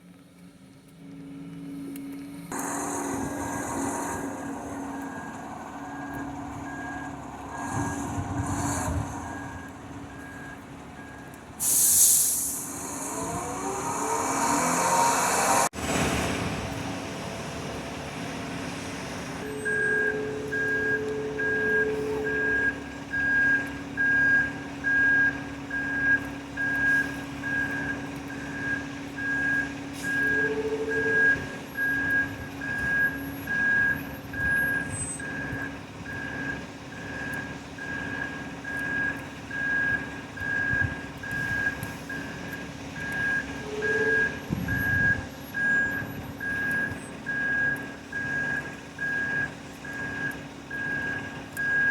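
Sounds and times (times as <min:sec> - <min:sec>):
diesel engine running: 0:00.0 - 0:51.9
reversing alarm beeping: 0:02.5 - 0:15.7, 0:19.4 - 0:51.9.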